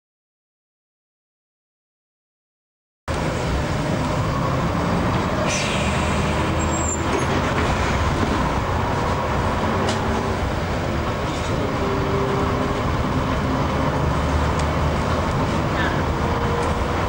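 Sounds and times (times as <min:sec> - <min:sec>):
bus engine and road hum: 0:03.1 - 0:17.0.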